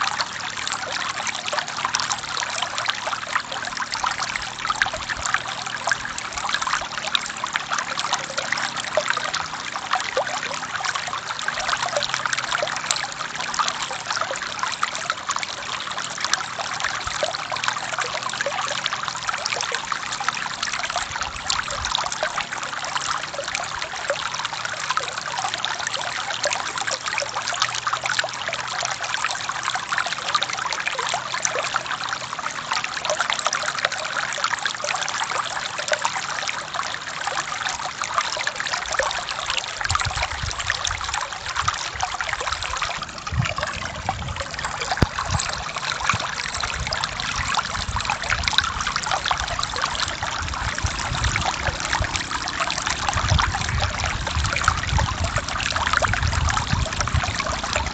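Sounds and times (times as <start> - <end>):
stream flowing over rocks: 0.0 - 57.9.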